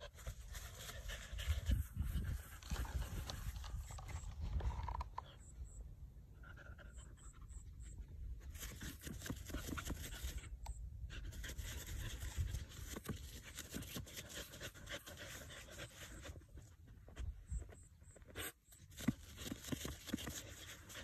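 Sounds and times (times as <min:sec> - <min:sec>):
dog claws scratching dirt: 0:00.0 - 0:05.4, 0:08.4 - 0:21.0.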